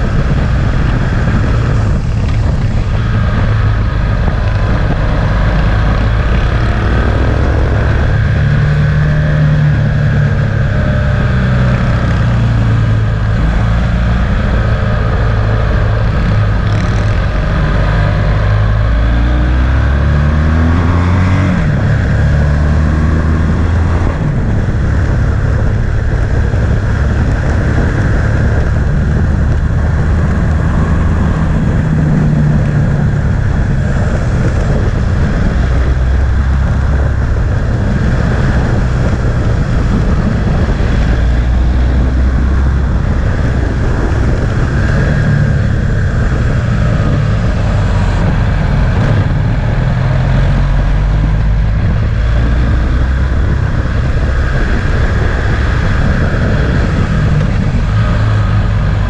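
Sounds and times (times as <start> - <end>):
motorcycle engine revving: 0.0 - 59.0
wind on microphone: 0.0 - 59.0.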